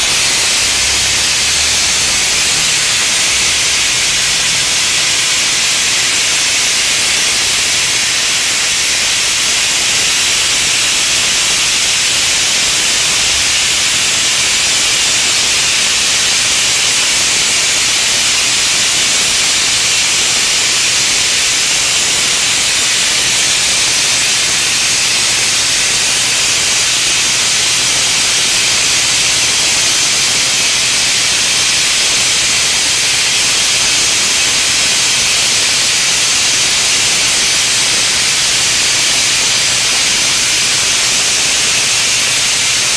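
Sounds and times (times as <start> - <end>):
steam hissing from boiler: 0.0 - 42.9.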